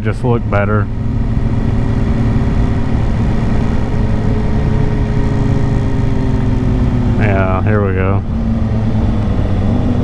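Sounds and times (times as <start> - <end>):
motorcycle engine cruising: 0.0 - 10.0
wind: 0.0 - 10.0.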